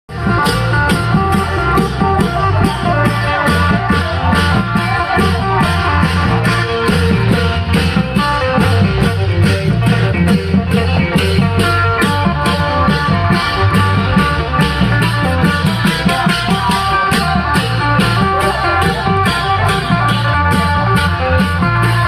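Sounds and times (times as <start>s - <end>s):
driving drum beat: 0.1s - 22.0s.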